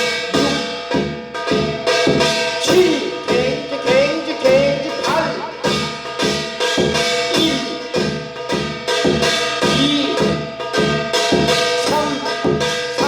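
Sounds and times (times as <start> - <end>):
slow percussion with ringing tones: 0.0 - 13.0.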